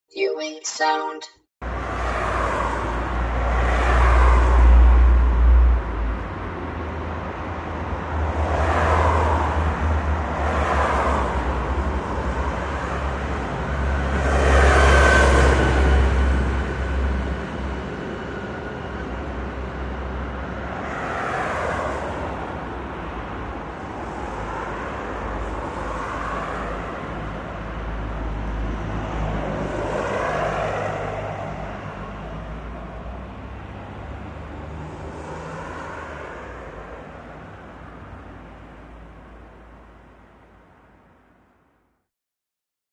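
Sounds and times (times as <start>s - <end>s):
vehicles passing: 1.6s - 40.9s.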